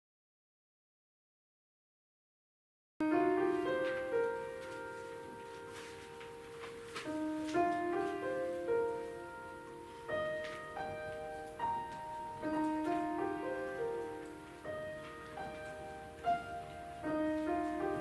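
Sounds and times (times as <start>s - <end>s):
piano piece: 3.0s - 18.0s.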